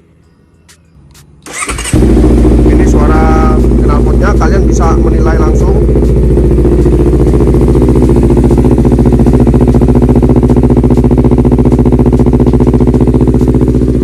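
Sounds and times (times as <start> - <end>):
motorcycle engine idling: 1.4 - 14.0.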